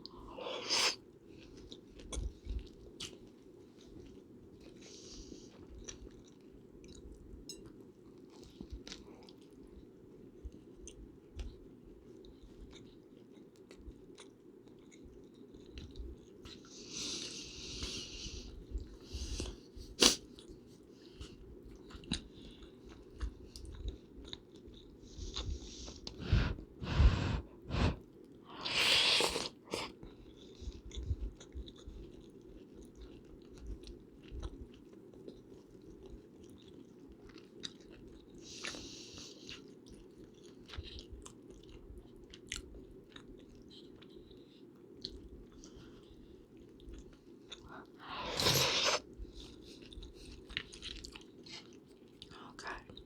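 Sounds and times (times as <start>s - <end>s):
low background hum: 0.0s - 53.0s
chewing and biting food: 0.9s - 53.0s.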